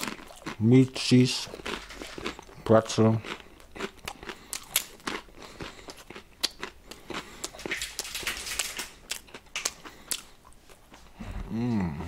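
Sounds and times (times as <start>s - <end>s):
crisp crunchy chewing: 0.0s - 11.2s.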